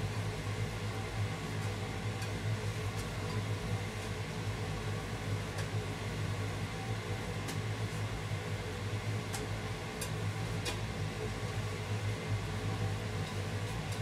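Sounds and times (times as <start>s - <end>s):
low mechanical hum with hiss: 0.0s - 14.0s.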